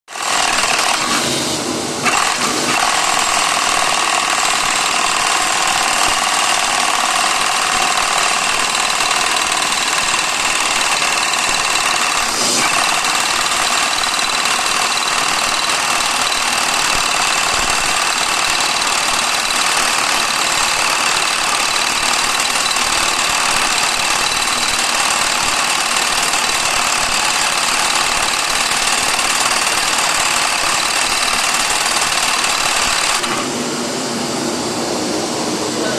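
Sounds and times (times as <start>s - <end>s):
power hammer clattering: 0.2s - 1.2s, 2.0s - 33.5s.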